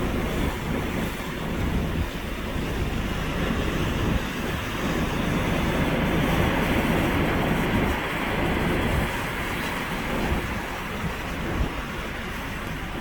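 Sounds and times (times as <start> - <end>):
sea waves rumbling: 0.0 - 13.0
wind buffeting microphone: 0.0 - 13.0.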